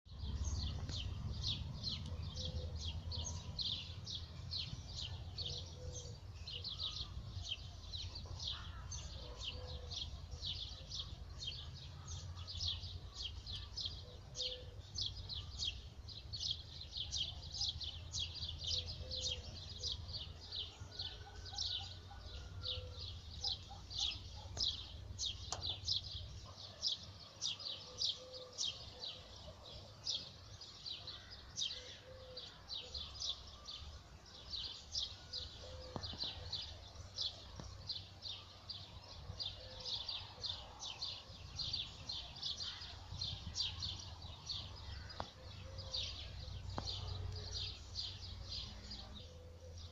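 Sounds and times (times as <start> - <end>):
songbirds chirping: 0.0 - 49.9.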